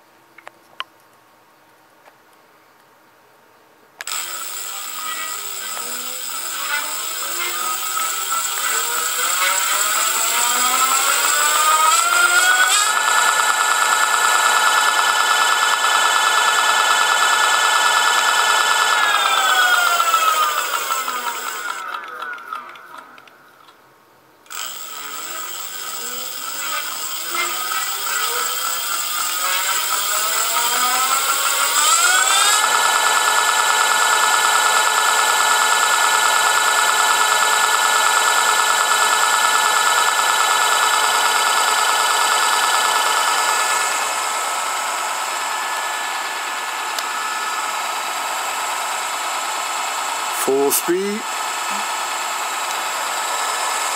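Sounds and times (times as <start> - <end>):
electric motor whine: 4.0 - 22.4, 24.5 - 50.3.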